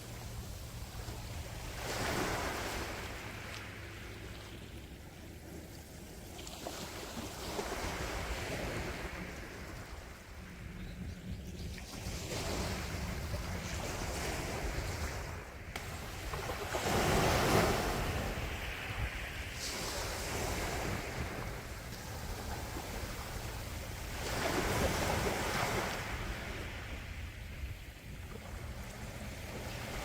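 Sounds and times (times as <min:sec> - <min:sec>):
sea waves washing ashore: 0:00.0 - 0:10.8, 0:11.6 - 0:30.0.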